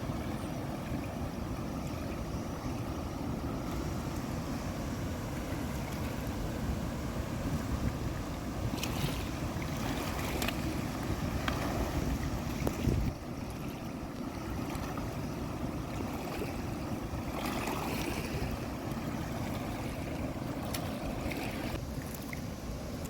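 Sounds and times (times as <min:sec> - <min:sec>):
flowing water: 0:00.0 - 0:23.0
wind buffeting microphone: 0:00.0 - 0:23.0.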